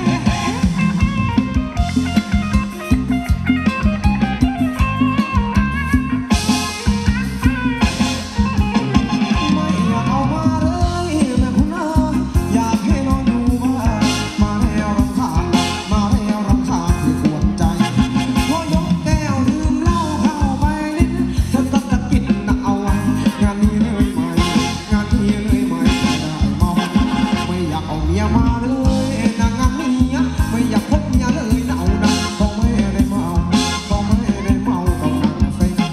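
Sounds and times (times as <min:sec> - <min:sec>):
person singing: 0:00.0 - 0:03.0, 0:06.4 - 0:35.9
band playing upbeat dance music: 0:00.0 - 0:35.9.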